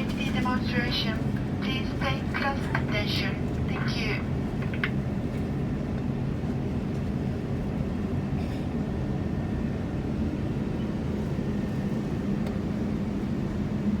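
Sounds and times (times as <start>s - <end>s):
jet cabin engine rumble: 0.0s - 14.0s.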